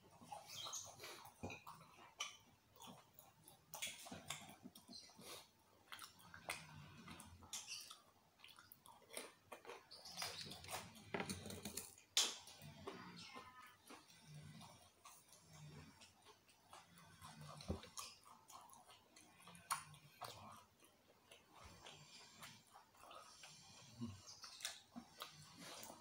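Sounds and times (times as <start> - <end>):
person chewing wetly: 0.1 - 26.0.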